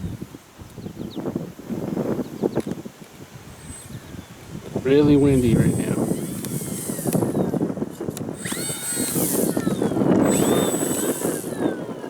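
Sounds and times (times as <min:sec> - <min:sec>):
wind rumble on microphone: 0:00.0 - 0:12.0
electric motor and propeller whining: 0:00.1 - 0:12.0.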